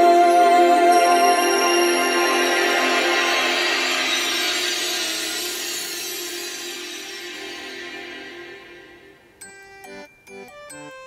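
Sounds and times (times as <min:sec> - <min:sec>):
pop song held chord: 0:00.0 - 0:10.9.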